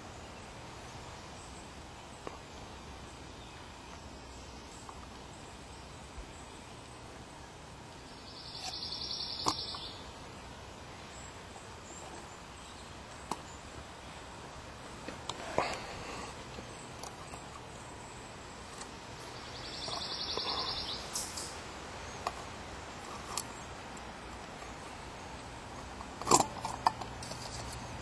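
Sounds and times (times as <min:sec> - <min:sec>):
faint outdoor background noise: 0:00.0 - 0:28.0.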